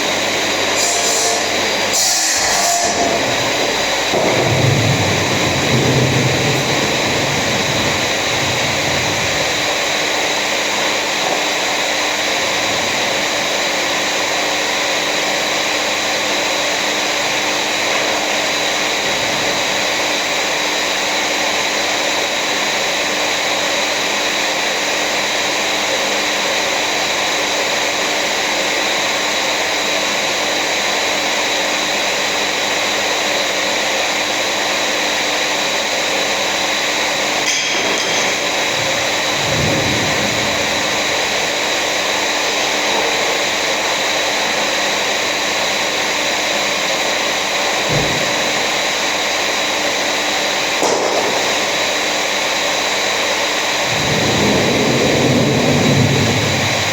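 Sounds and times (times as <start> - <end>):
electric machine hissing and humming: 0.0 - 56.9.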